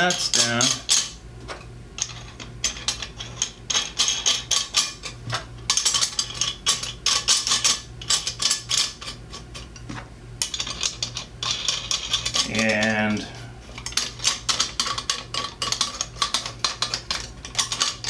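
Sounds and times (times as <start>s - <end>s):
metal nuts clicking and clinking: 0.0s - 1.2s, 2.0s - 9.8s, 10.4s - 18.0s
steady low hum: 0.0s - 18.0s.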